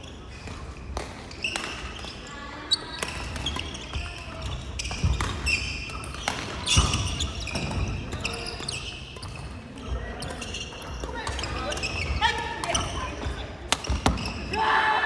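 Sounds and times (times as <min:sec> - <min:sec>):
sneakers squeaking on wooden floor: 0:00.0 - 0:14.6.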